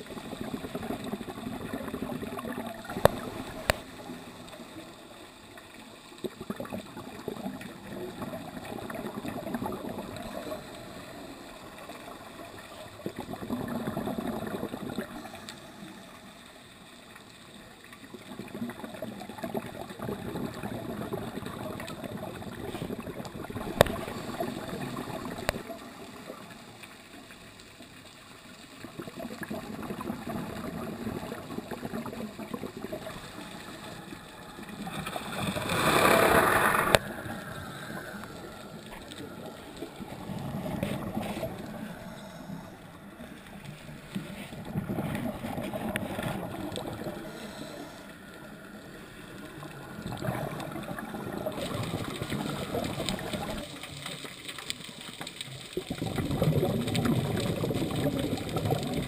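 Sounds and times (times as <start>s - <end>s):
underwater exhaled bubbles gurgling: 0.0s - 59.0s.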